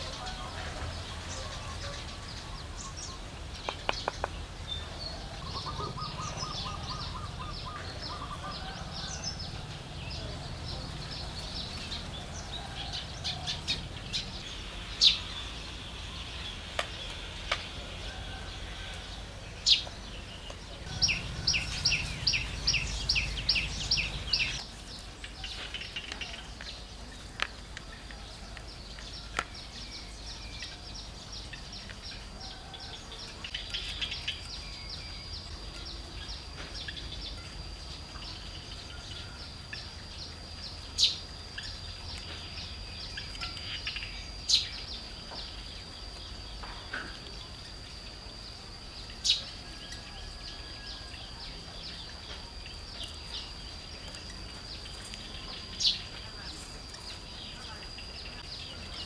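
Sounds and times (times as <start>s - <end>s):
wild birds chirping: 0.0s - 59.0s.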